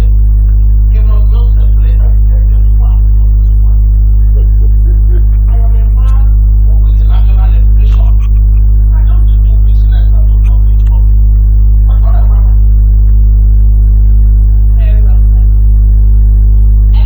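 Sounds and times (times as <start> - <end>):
loud low hum: 0.0 - 17.0
voices: 0.0 - 17.0.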